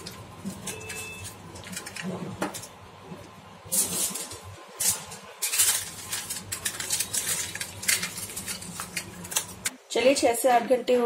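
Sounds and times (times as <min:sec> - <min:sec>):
aluminium foil crinkling: 0:00.0 - 0:02.8, 0:03.7 - 0:09.8.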